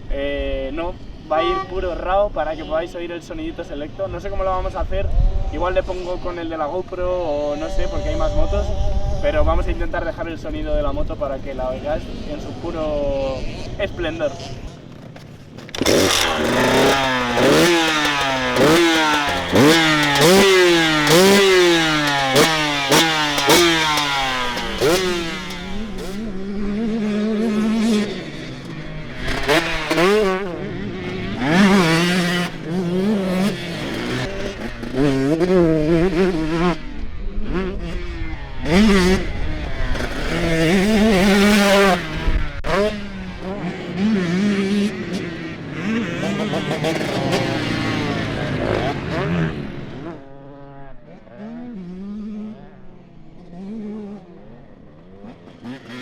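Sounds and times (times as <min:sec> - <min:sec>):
motocross bike engine revving: 0:05.1 - 0:56.0.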